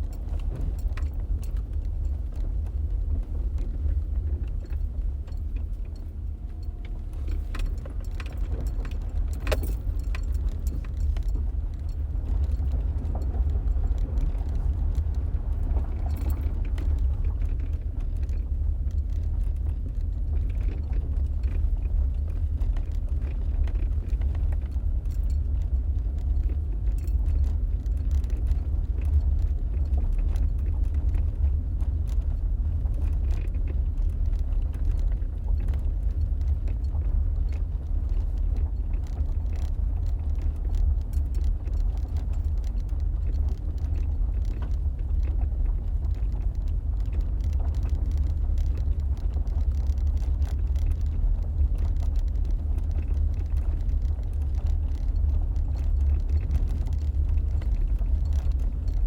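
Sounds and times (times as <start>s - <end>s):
car road and engine rumble: 0.0s - 59.0s
faint ticks: 3.6s - 59.0s.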